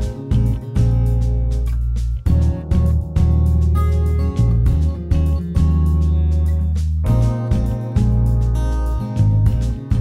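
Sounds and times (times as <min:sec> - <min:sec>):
instrumental music with deep bass: 0:00.0 - 0:10.0.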